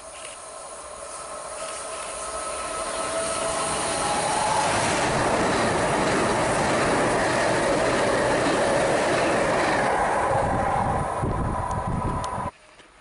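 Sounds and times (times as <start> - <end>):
passing train rushing: 0.0 - 12.8.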